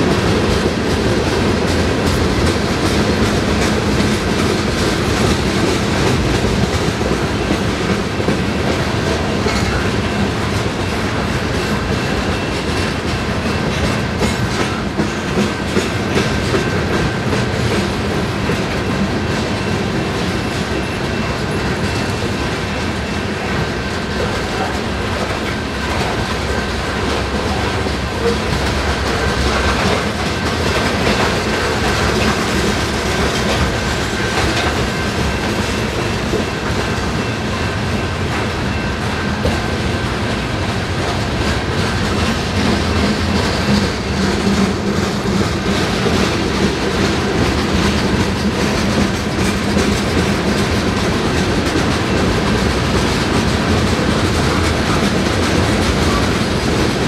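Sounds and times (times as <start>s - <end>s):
wheels clicking over rail joints: 0.0s - 37.3s, 39.4s - 57.0s
train wheels rumbling on rail: 0.0s - 57.0s.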